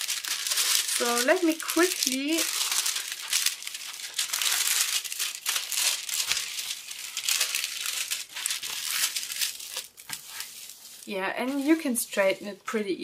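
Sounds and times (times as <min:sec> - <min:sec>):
plastic film crinkling: 0:00.0 - 0:12.8.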